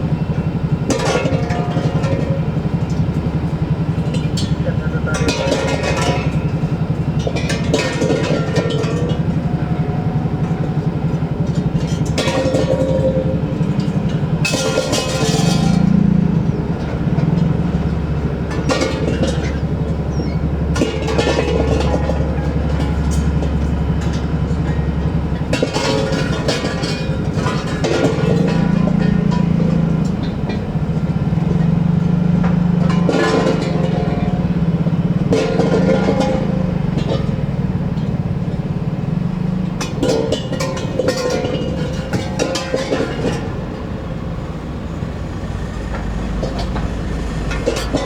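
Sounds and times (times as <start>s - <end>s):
bursts of clatter: 0.0s - 48.0s
heavy engine throbbing: 0.0s - 48.0s
sharp knocks and clanks: 0.0s - 48.0s.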